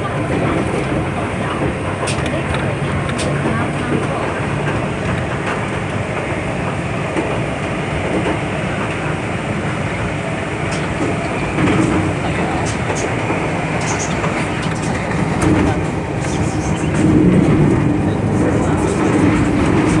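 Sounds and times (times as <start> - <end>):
train wheels rumbling and rattling: 0.0 - 20.0.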